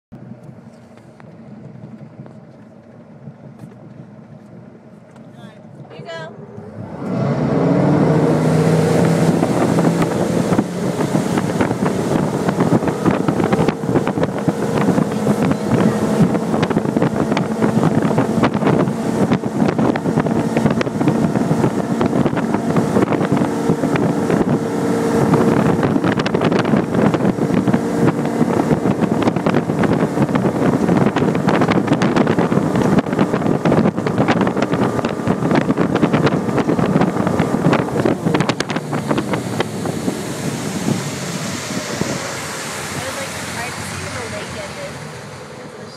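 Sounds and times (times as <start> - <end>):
boat engine running hard: 0.2 - 45.9
wind buffeting microphone: 1.1 - 45.9.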